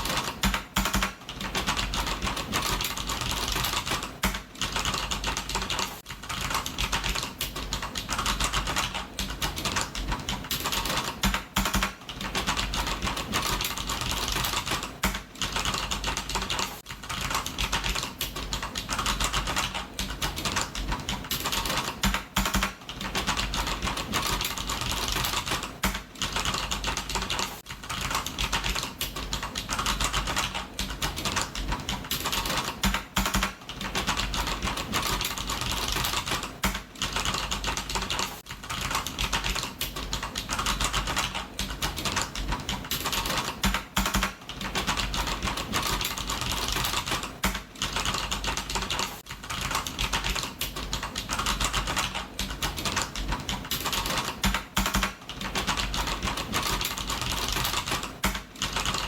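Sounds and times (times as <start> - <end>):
fast keyboard typing: 0.0 - 59.0.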